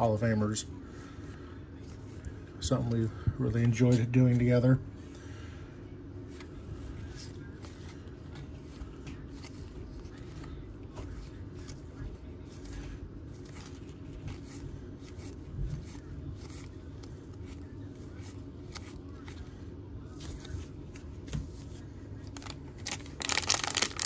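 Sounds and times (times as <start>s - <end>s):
low room hum: 0.0s - 24.0s
cards rustling and scraping: 1.2s - 4.6s, 6.2s - 24.0s.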